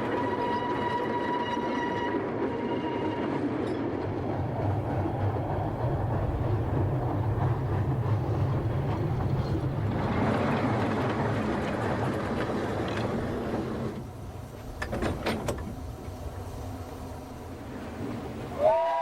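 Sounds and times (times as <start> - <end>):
small train rumbling: 0.0 - 19.0.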